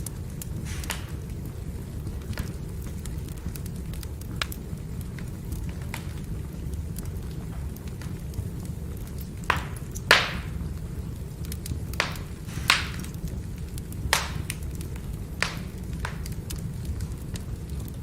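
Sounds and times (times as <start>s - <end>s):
fire low rumble: 0.0s - 18.0s
logs popping and cracking: 0.0s - 18.0s.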